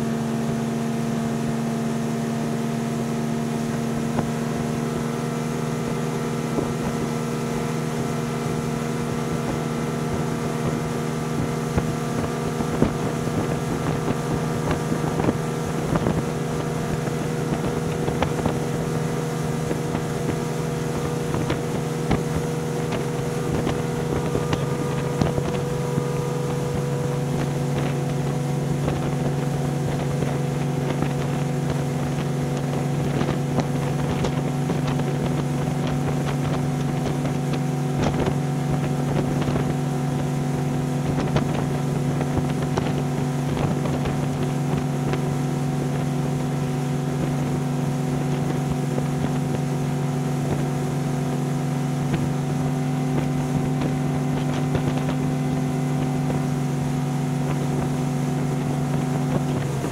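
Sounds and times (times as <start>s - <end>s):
outboard engine droning: 0.0s - 59.9s
water rushing past hull: 0.0s - 59.9s
wind on microphone: 3.5s - 59.9s.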